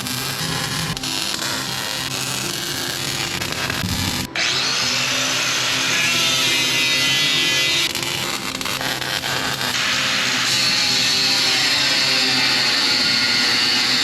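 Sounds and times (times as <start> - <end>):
background music: 0.0 - 14.0
electric power tool spinning: 0.0 - 14.0.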